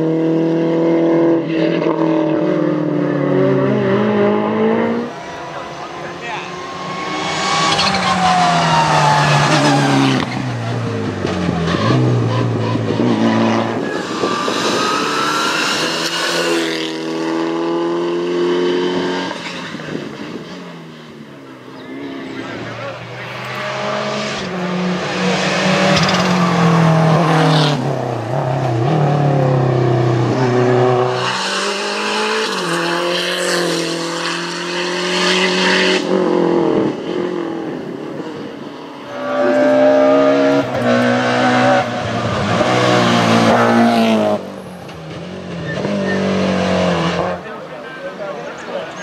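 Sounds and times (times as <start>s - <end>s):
rally cars revving past: 0.0s - 49.0s.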